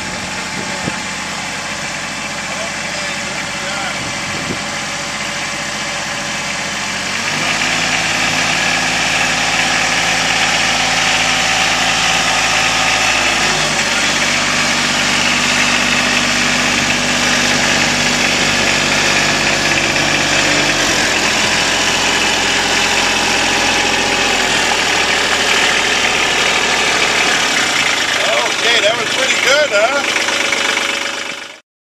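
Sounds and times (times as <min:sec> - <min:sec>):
tractor diesel engine running: 0:00.0 - 0:31.6.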